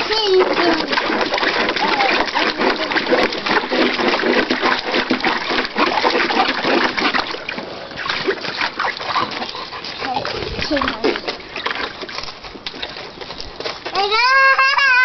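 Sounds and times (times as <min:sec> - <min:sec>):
water splashing in wading pool: 0:00.0 - 0:15.0.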